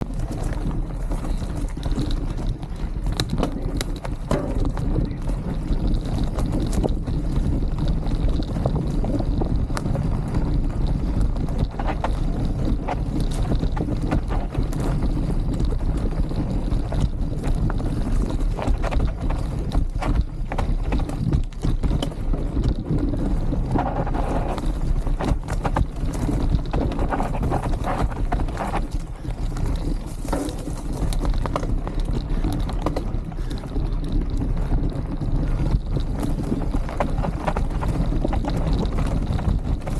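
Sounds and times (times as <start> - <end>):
small knocks and rattles: 0.0 - 39.9
steady low rumble: 0.0 - 39.9
wind buffeting microphone: 0.0 - 39.9.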